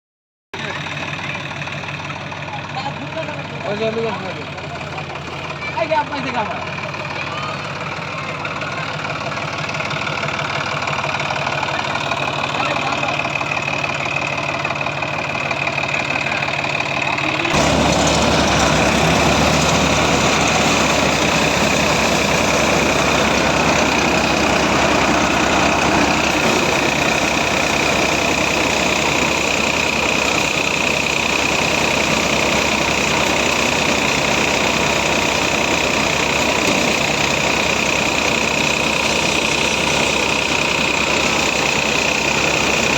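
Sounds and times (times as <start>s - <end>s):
diesel engine running: 0.6s - 42.9s.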